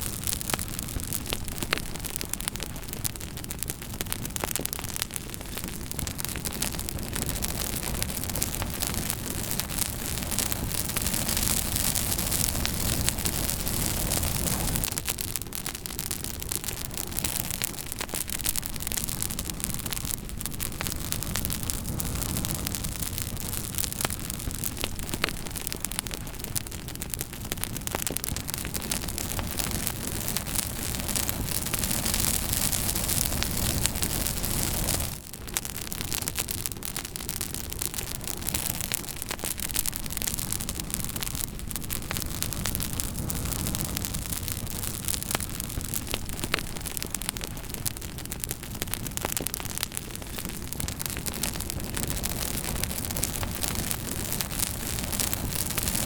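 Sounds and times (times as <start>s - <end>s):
campfire crackles and pops: 0.0s - 56.0s.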